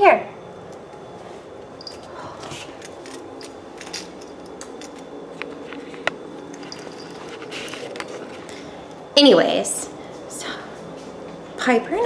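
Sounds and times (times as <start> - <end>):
low household hum: 0.0 - 12.0.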